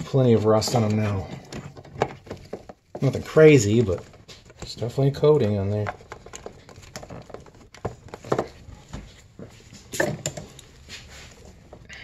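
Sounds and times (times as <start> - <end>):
hands handling hose fittings: 0.0 - 12.0.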